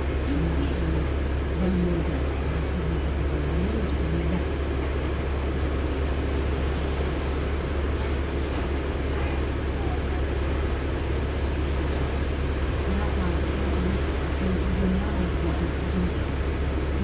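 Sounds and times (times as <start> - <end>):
bus engine and road drone: 0.0 - 17.0.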